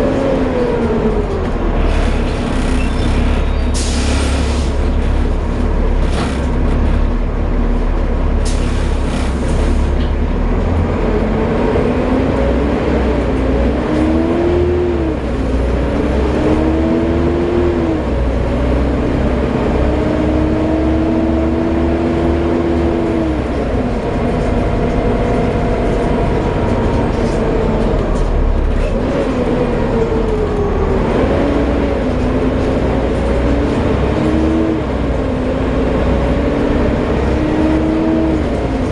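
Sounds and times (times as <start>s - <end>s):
bus driveline whine: 0.0s - 38.9s
diesel engine rumble: 0.0s - 38.9s.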